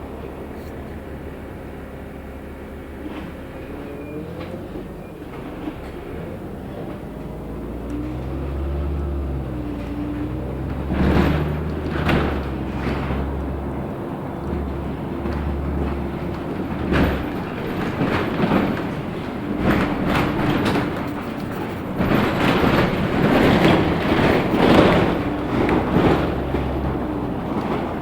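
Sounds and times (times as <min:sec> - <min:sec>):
bus engine drone: 0:00.0 - 0:28.0
bus body knocks and rattles: 0:04.2 - 0:28.0.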